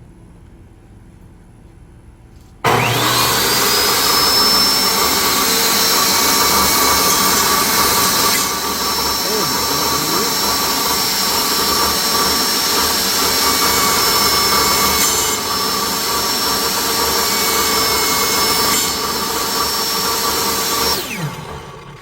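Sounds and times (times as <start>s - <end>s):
table saw whining: 2.6s - 22.0s
saw blade winding down: 2.7s - 22.0s.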